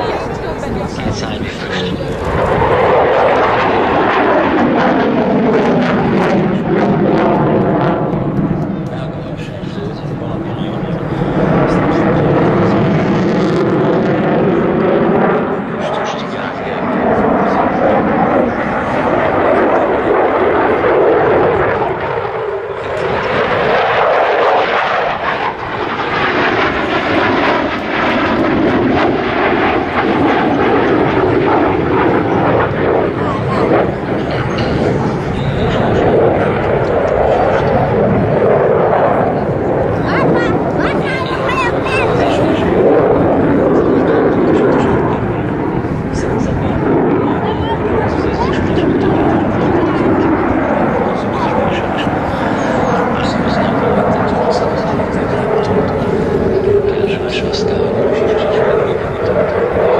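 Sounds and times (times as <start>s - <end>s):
jet engine in flight: 0.0s - 59.9s.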